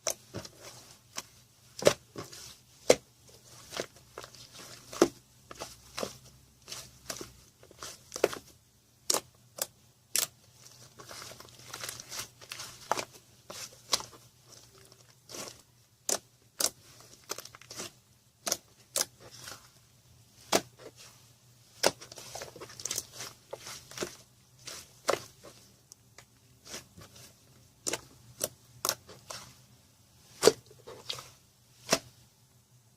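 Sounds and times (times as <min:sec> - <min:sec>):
slime squishing: 0:00.0 - 0:32.2.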